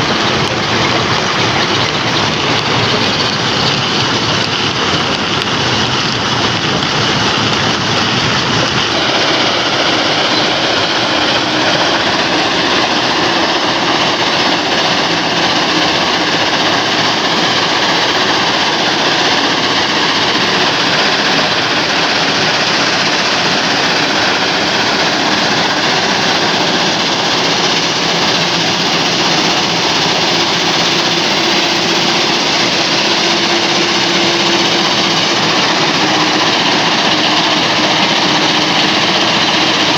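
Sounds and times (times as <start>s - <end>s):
engine droning: 0.0s - 39.9s
stone crusher clattering and grinding: 0.0s - 39.9s.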